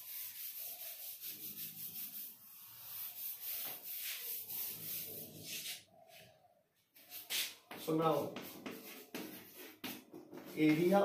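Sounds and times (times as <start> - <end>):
duster wiping chalkboard: 0.0 - 5.9, 7.0 - 11.0.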